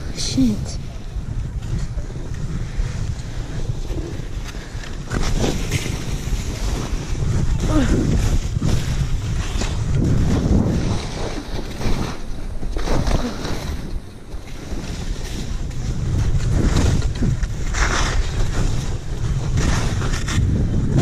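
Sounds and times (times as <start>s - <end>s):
skis scraping over snow: 0.0s - 21.0s
wind buffeting microphone: 0.0s - 21.0s.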